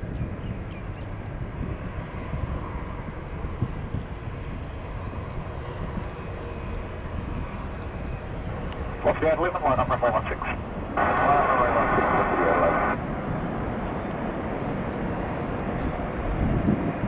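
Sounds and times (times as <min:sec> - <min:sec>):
jet engines rumbling: 0:01.1 - 0:17.0.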